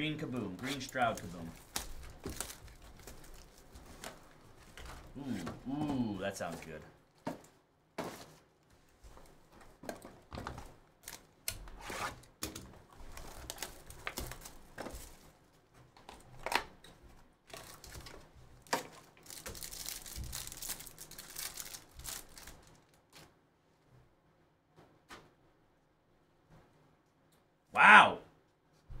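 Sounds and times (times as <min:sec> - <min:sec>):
cardboard and plastic rustling: 0:00.0 - 0:23.4.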